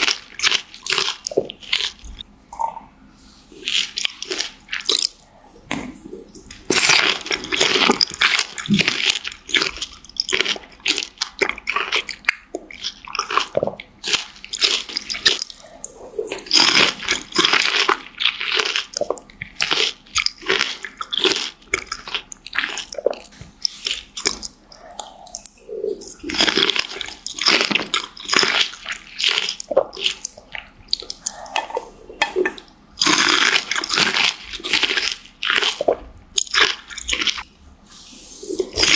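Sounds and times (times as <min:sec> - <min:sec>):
crunching and chewing fruit: 0:00.0 - 0:02.9, 0:03.5 - 0:38.9.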